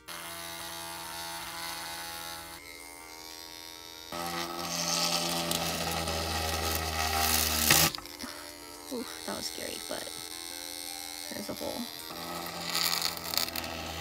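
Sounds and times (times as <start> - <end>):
drill bit cutting metal: 0.0 - 14.0
electric hand drill buzzing: 0.0 - 14.0.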